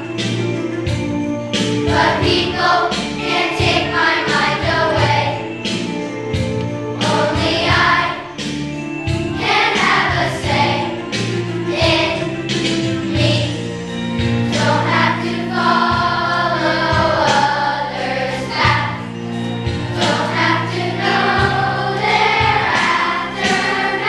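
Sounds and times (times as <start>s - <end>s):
instrumental accompaniment: 0.0s - 24.0s
children's choir singing: 1.8s - 6.2s, 7.0s - 24.0s.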